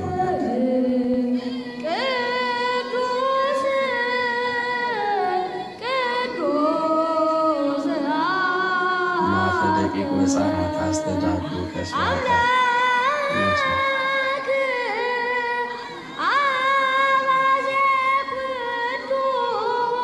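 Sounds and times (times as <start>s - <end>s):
boy singing a hymn: 0.0s - 20.0s.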